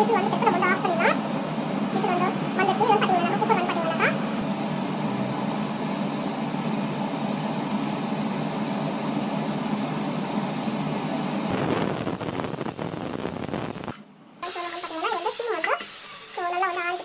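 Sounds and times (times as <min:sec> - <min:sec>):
pressure cooker hissing: 0:00.0 - 0:03.7, 0:04.4 - 0:17.0.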